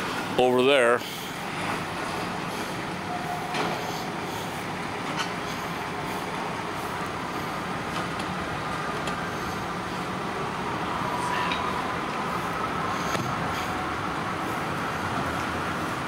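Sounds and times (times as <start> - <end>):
vehicles running: 0.0 - 16.0.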